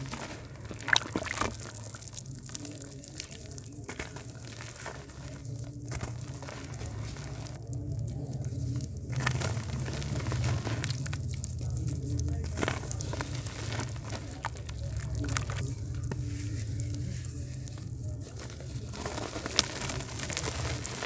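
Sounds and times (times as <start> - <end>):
mud crumbling into water: 0.0 - 21.0
steady low hum: 0.0 - 21.0.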